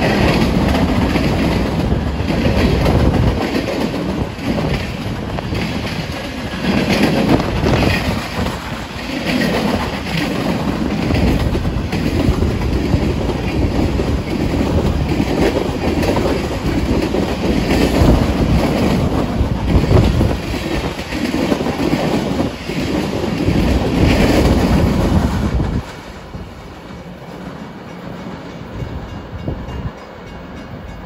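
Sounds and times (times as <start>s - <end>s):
distant train rumble: 0.0s - 31.0s
freight train wheels on rails: 0.0s - 31.0s.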